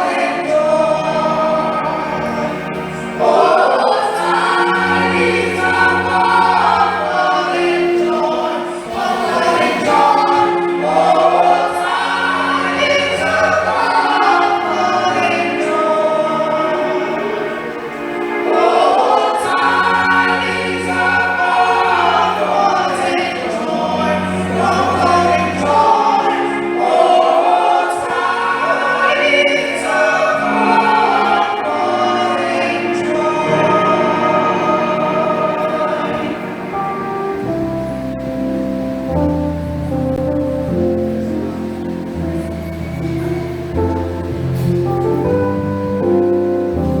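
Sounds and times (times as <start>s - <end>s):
church choir singing in parts: 0.0s - 47.0s
held bass notes: 0.0s - 47.0s.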